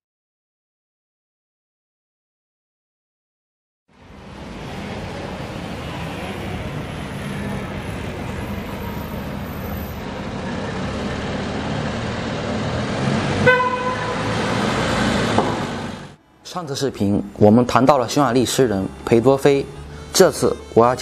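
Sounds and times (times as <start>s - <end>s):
bus engine running: 3.9s - 21.0s
city street traffic: 3.9s - 21.0s.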